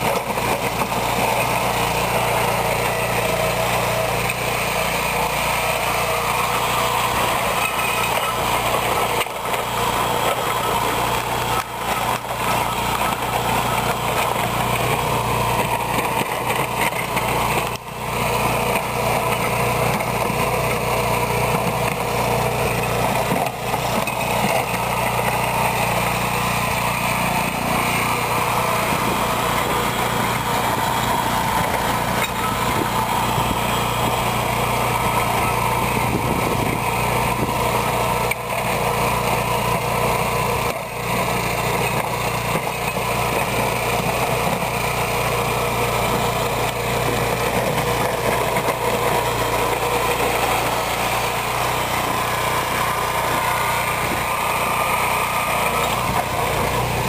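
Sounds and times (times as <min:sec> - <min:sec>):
small gasoline engine running: 0:00.0 - 0:57.0
snow blade pushing icy snow: 0:00.0 - 0:57.0.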